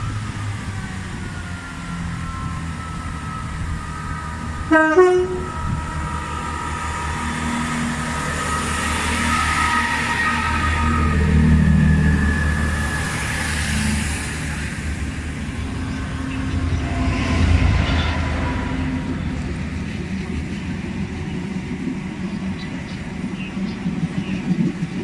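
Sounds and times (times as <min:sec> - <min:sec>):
diesel train engine rumbling: 0:00.0 - 0:25.0.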